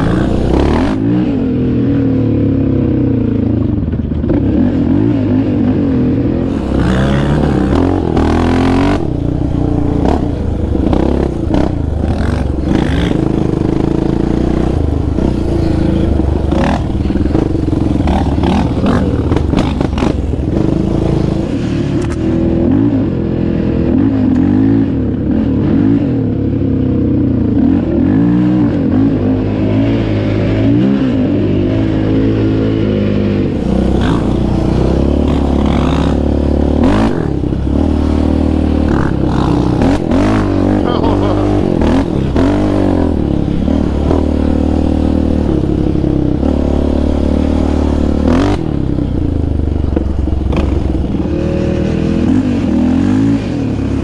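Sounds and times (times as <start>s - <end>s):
quad engine running hard: 0.0s - 54.0s.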